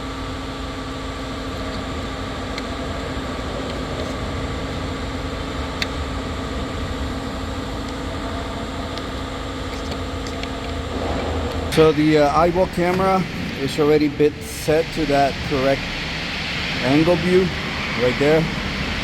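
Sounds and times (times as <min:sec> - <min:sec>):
mechanical hum with low rumble: 0:00.0 - 0:19.0
steady tones: 0:00.0 - 0:19.0.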